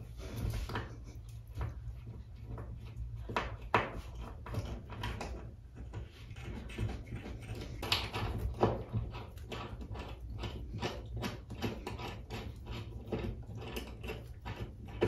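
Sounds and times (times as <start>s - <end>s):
wall fitting clicks and scrapes: 0.0s - 15.0s.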